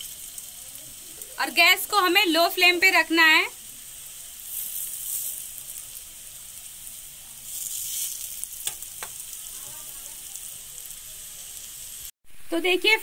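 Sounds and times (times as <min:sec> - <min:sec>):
banana slices sizzling in oil: 0:00.0 - 0:13.0.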